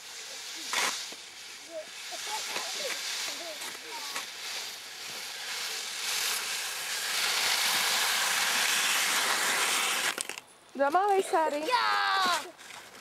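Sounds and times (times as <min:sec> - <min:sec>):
skis sliding over snow: 0:00.0 - 0:13.0.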